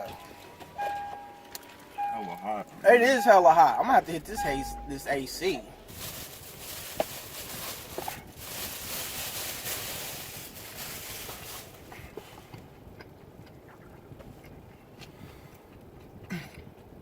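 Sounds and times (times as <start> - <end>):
air conditioner blowing: 0.0 - 17.0.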